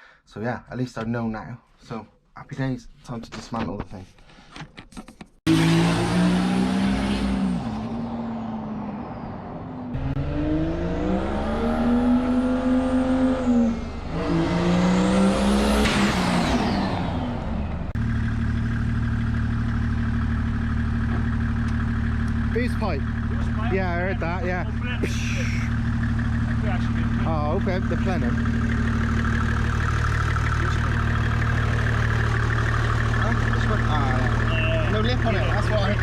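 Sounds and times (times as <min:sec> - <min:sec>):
diesel van engine revving: 0:05.5 - 0:36.0.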